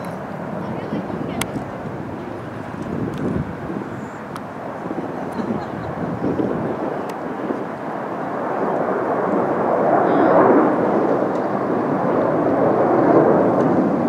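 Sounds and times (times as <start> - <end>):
jet noise overhead: 0.0 - 14.0.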